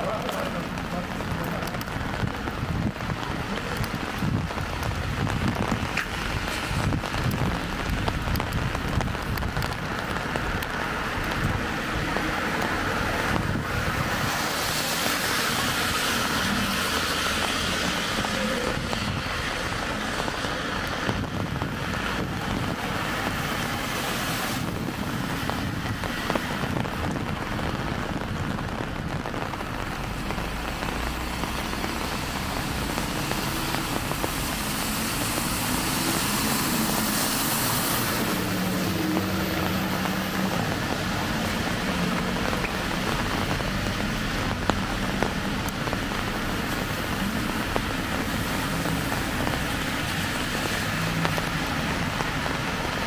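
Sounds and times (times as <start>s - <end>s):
car tyres hissing on wet road: 0.0s - 53.0s
light rain: 0.0s - 53.0s
wind on microphone: 1.8s - 15.2s, 17.2s - 53.0s.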